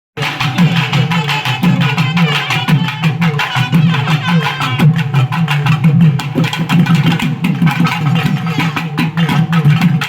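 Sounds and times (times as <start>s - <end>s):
drum-led music: 0.2s - 10.0s.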